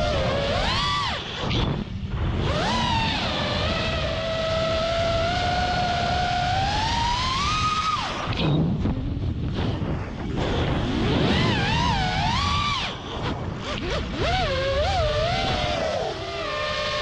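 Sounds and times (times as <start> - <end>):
drone motors whining: 0.0 - 17.0
wind noise: 0.0 - 17.0.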